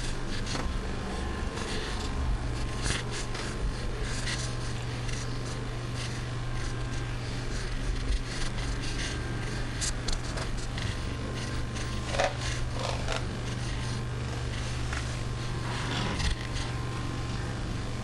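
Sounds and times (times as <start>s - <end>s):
scratchy rustling noise: 0.0s - 17.4s
steady low hum: 0.0s - 18.0s.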